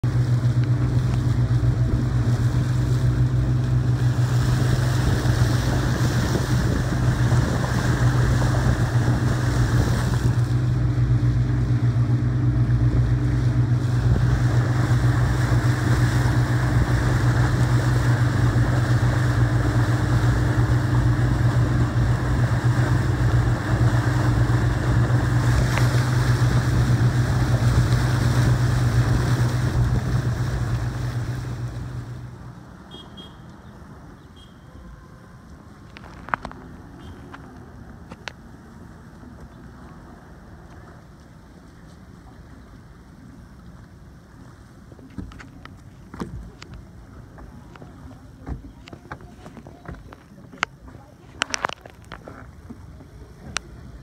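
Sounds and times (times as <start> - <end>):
motorboat engine droning: 0.0 - 54.0
water rushing past hull: 0.0 - 54.0.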